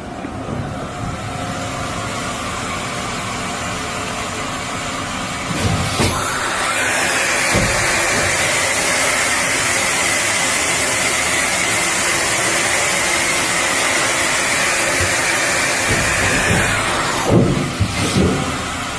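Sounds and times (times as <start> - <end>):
machine hiss and whine: 0.0 - 18.9.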